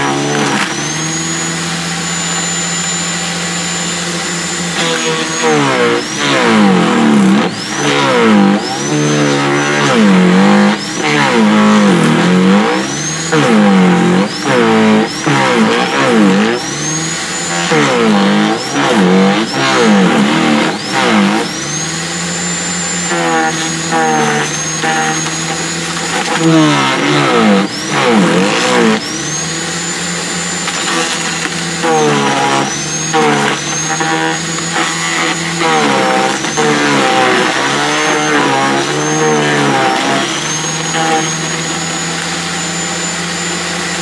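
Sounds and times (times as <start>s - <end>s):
garden shredder motor whine: 0.0s - 44.0s
wood crackling being cut: 0.0s - 44.0s.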